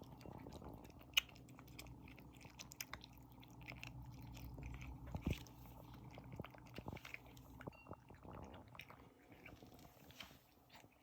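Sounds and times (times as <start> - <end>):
kitten eating and chewing: 0.0 - 11.0.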